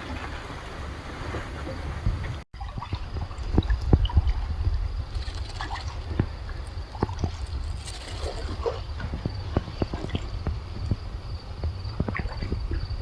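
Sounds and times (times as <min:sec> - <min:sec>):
water sloshing around paddle: 0:00.0 - 0:13.0
wind on microphone: 0:00.0 - 0:13.0.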